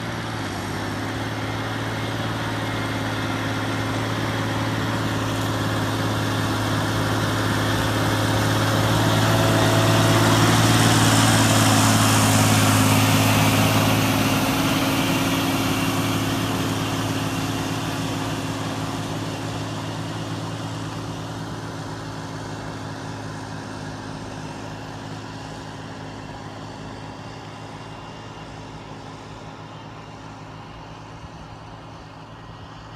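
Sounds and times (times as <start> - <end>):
tractor diesel engine droning: 0.0 - 32.9.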